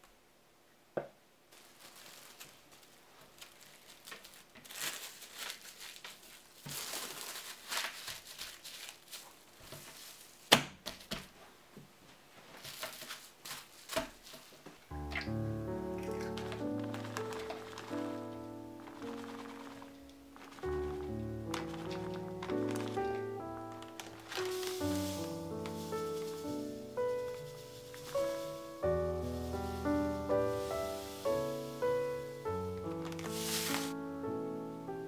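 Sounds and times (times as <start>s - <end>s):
cling film crinkling: 1.5s - 10.6s, 12.5s - 34.0s.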